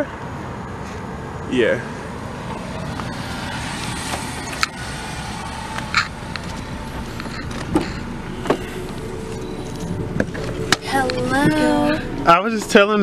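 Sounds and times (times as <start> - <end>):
car engine idling: 1.3 - 13.0.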